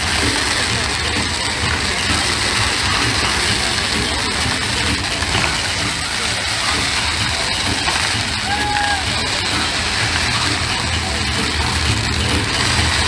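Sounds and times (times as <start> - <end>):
crowd voices: 0.0 - 13.0
fireworks spraying with rushing hiss: 0.0 - 13.0.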